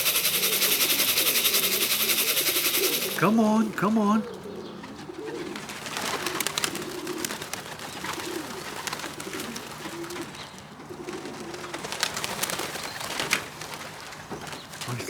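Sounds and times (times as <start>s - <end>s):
feet and wings tapping: 0.0s - 4.3s, 5.3s - 10.4s, 11.2s - 15.0s
pigeons cooing: 0.0s - 15.0s.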